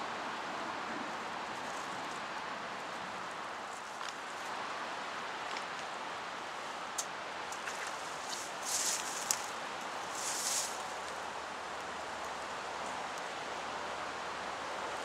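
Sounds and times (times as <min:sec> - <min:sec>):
wind through reeds and trees: 0:00.0 - 0:15.0.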